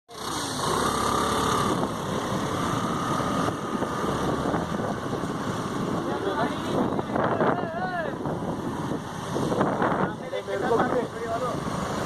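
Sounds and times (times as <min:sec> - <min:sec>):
vehicle running: 0:00.1 - 0:12.0
wind buffeting microphone: 0:01.6 - 0:11.9.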